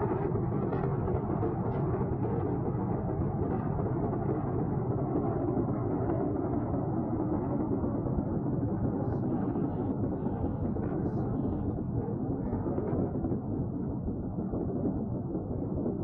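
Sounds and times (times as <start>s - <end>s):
steady low rumbling: 0.0s - 16.0s.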